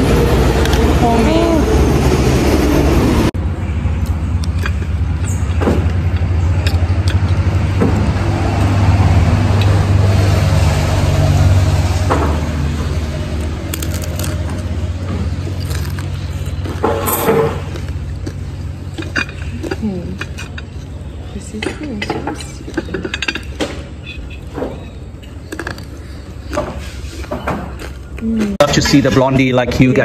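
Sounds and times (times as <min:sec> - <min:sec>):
low motor rumble: 0:00.0 - 0:30.0.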